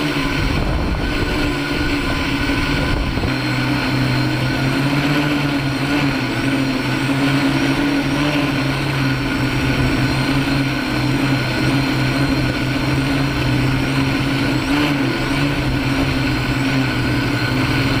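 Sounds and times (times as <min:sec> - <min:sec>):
drone motors humming: 0:00.0 - 0:18.0.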